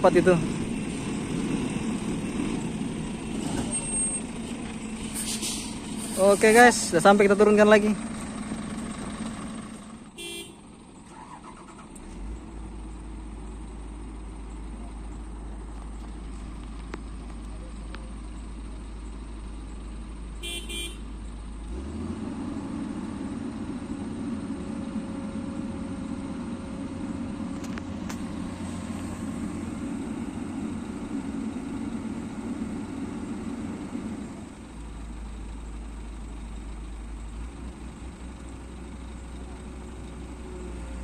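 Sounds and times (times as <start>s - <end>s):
excavator diesel engine: 0.0s - 41.0s.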